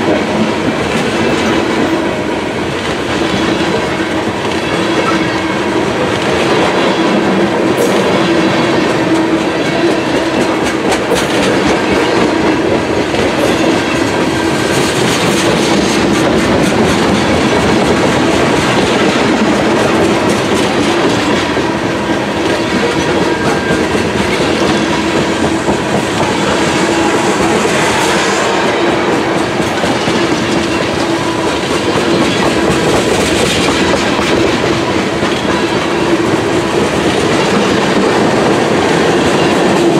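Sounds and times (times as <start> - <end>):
freight train wheels rumbling: 0.0 - 39.9
wheel clickety-clack: 2.7 - 28.0, 29.1 - 39.9.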